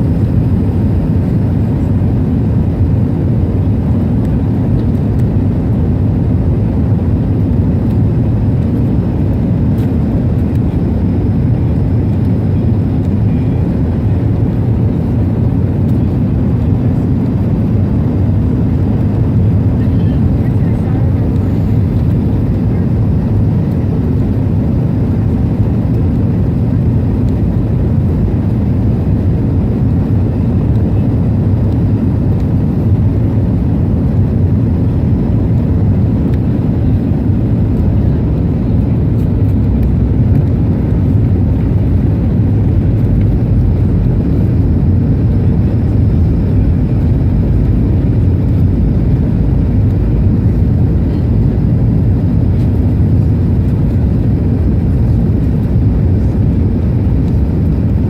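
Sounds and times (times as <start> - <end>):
jet cabin engine rumble: 0.0 - 58.0.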